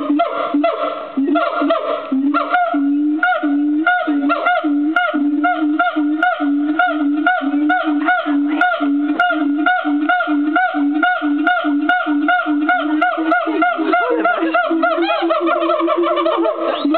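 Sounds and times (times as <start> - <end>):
gibbon hooting: 0.0 - 16.9.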